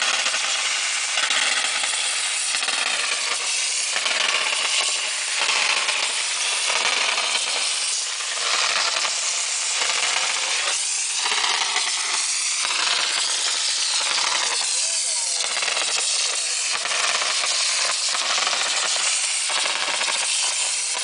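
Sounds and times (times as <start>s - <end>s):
compressed air hissing: 0.0s - 21.0s
gritty mortar spatter: 0.0s - 21.0s.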